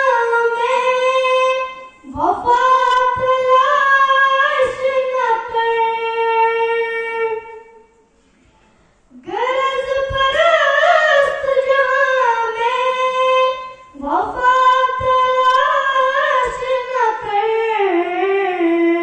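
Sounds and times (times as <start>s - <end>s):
woman singing unaccompanied: 0.0s - 7.9s, 9.1s - 19.0s.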